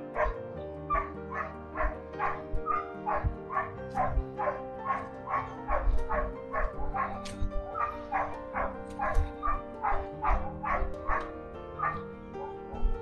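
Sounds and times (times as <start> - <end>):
background music with chords: 0.0 - 13.0
dog barking: 0.1 - 13.0.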